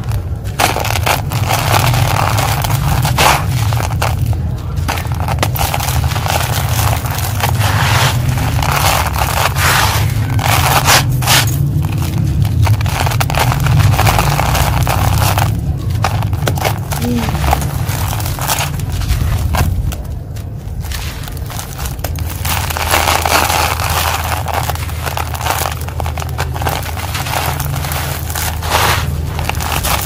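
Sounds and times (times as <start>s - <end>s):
concrete chunks crushed by hand: 0.0s - 30.0s
grit falling on plastic mesh: 0.0s - 30.0s
low rumble: 0.0s - 30.0s.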